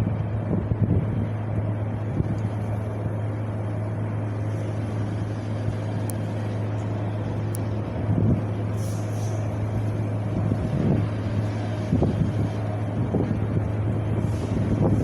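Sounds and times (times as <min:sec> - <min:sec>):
constant low hum: 0:00.0 - 0:15.0
wind blowing: 0:00.0 - 0:15.0
wind buffeting microphone: 0:00.0 - 0:15.0.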